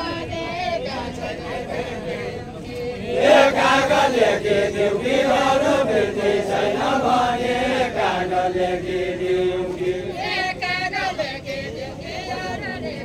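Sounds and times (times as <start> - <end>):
group singing folk song: 0.0 - 13.0.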